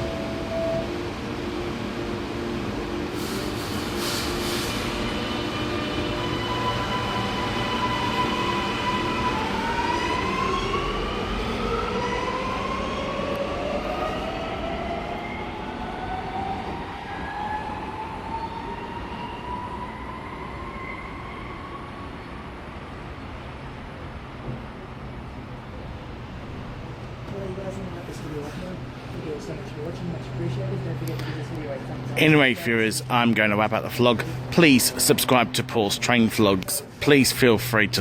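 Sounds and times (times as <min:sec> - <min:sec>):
metro train motors whining: 0:00.0 - 0:38.0.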